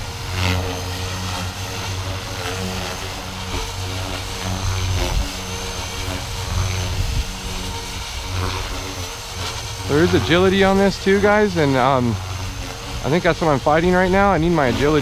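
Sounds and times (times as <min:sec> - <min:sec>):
high motor whine: 0:00.0 - 0:15.0
rc helicopter rotor buzz: 0:00.0 - 0:15.0.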